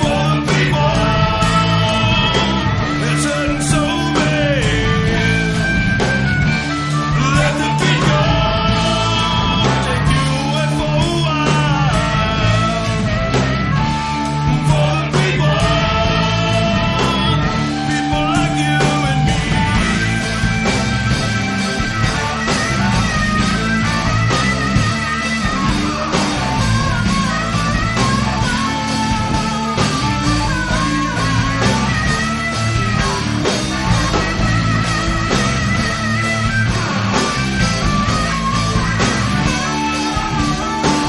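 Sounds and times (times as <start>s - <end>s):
bass: 0.0s - 41.0s
drums: 0.0s - 41.0s
electric guitar: 0.0s - 41.0s.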